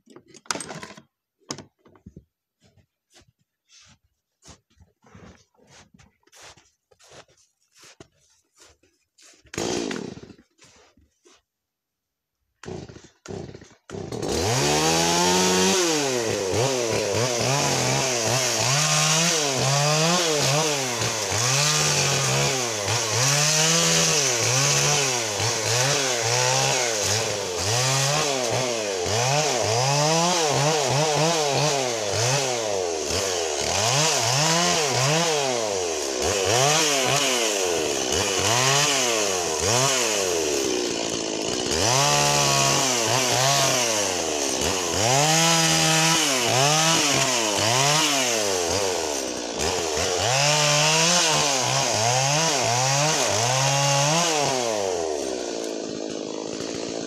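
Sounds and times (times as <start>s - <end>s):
chainsaw cutting wood: 0.0s - 11.5s, 12.3s - 57.0s.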